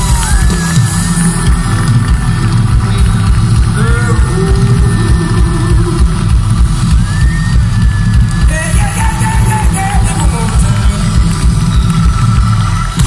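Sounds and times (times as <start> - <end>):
blues-rock band playing: 0.0 - 13.0.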